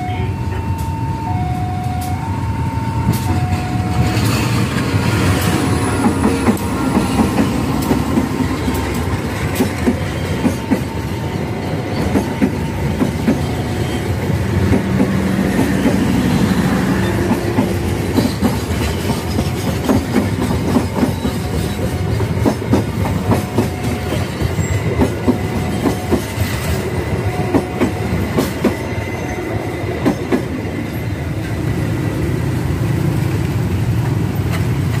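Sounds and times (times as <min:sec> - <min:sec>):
diesel locomotive passing: 0:00.0 - 0:35.0
train wheels clattering on rails: 0:03.0 - 0:31.9, 0:33.0 - 0:35.0.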